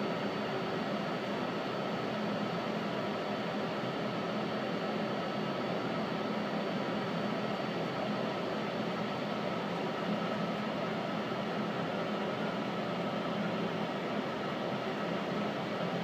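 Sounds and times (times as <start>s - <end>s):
ventilation fans humming: 0.0s - 16.0s.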